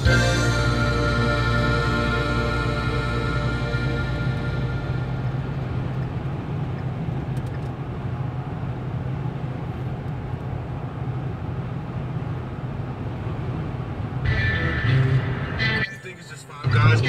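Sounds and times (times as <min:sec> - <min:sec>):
car road and engine drone: 0:00.0 - 0:17.0.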